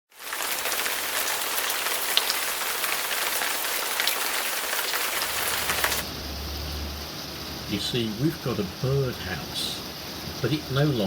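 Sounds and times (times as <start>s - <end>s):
heavy rain pouring: 0.1s - 11.0s.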